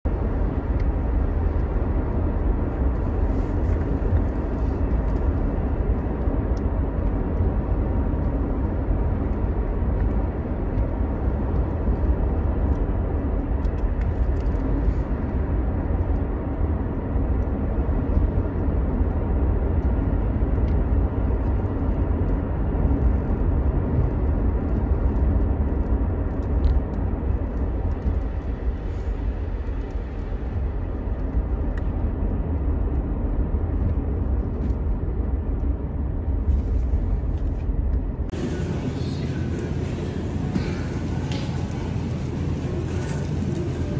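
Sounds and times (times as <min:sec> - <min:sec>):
car engine rumble: 0:00.0 - 0:43.9
road noise inside car: 0:00.0 - 0:43.9.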